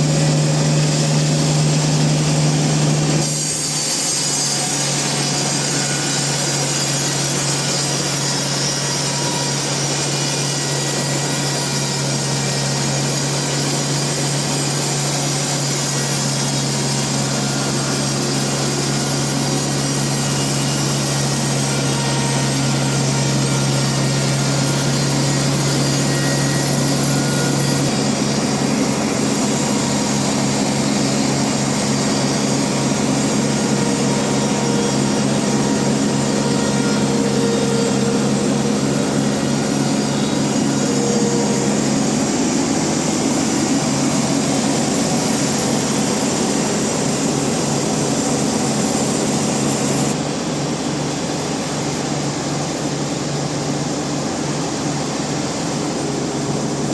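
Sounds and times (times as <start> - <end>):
band sawmill machine drone: 0.0 - 56.9.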